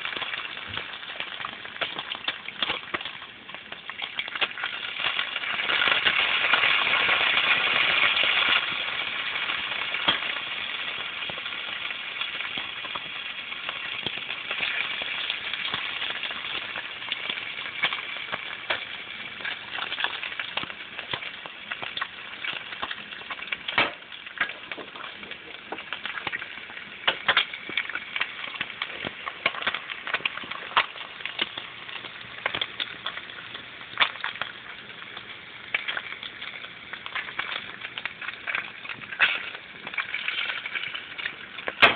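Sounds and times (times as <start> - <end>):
bacon sizzling: 0.0 - 41.9
fat popping and crackling: 0.0 - 41.9.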